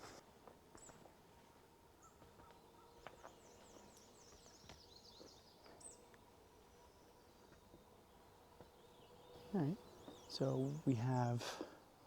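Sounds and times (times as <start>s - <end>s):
distant birdsong: 2.0s - 12.0s.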